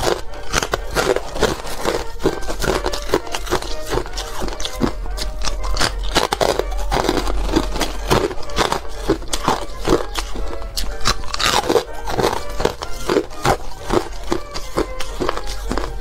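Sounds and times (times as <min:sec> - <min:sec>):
background music: 0:00.0 - 0:16.0
ice chunks being chewed: 0:00.0 - 0:16.0.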